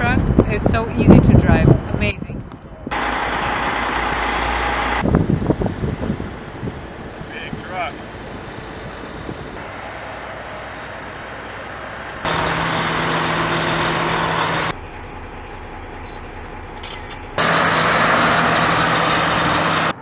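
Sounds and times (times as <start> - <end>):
diesel truck engine droning: 2.5 - 20.0.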